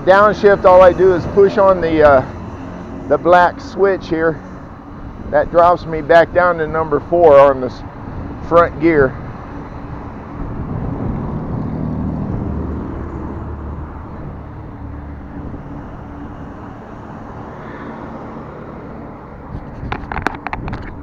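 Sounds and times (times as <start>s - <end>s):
motor vehicle humming: 0.0s - 21.0s
road traffic: 0.0s - 21.0s
wind noise: 0.0s - 21.0s.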